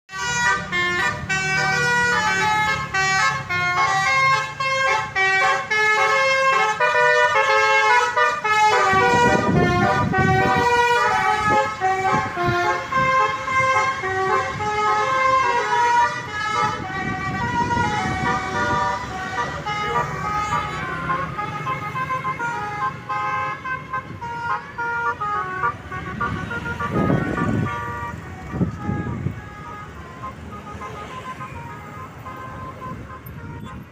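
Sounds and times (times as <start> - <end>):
bus multi-tone horn melody: 0.1 - 33.9.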